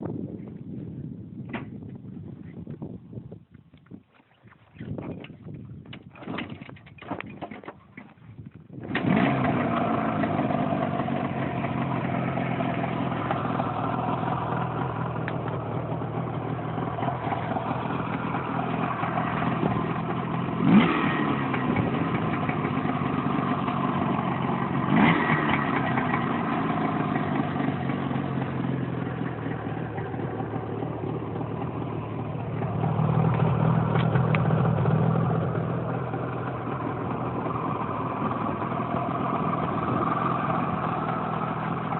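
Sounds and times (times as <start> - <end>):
motorcycle engine idling and revving: 4.7 - 41.9.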